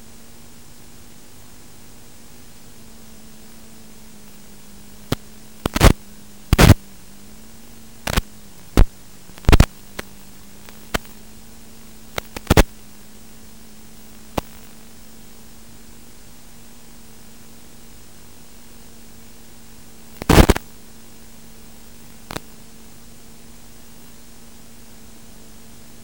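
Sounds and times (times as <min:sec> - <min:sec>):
loud static crackles: 0:00.0 - 0:26.0
radio static hiss: 0:00.0 - 0:26.0.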